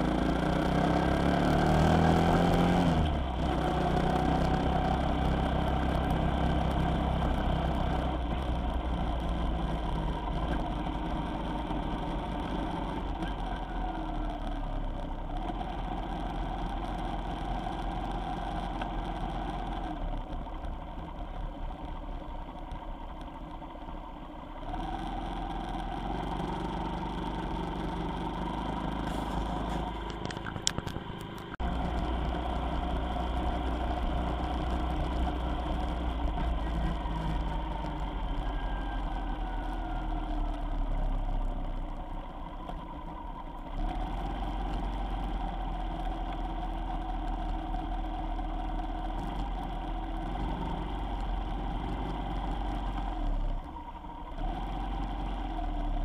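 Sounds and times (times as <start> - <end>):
vehicle engine driving: 0.0 - 56.0.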